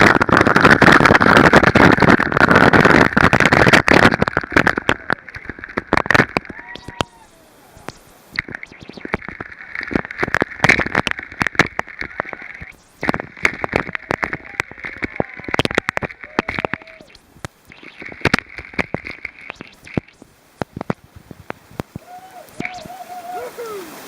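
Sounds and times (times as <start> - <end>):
rushing water splashing: 0.0 - 24.0.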